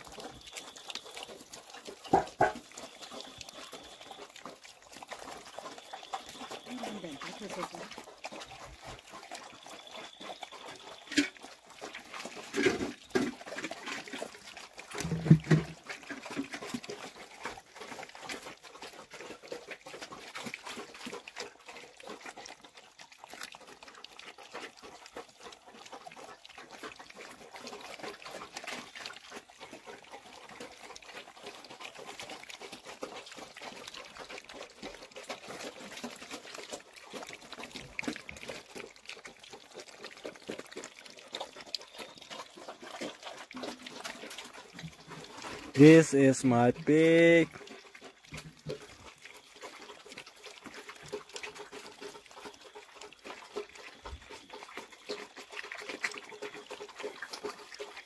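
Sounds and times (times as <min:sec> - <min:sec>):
piglets slurping and chomping: 0:00.0 - 0:58.0.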